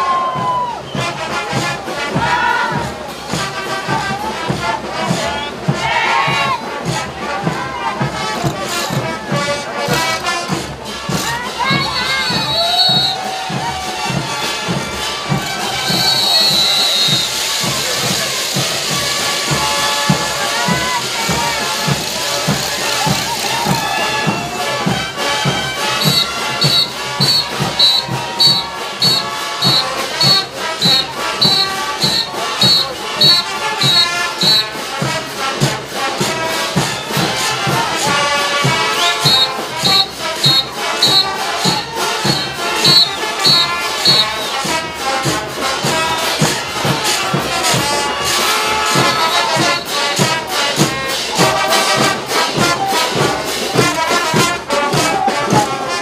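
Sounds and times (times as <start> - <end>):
brass band playing: 0.0 - 56.0
steady drum beat: 0.0 - 56.0.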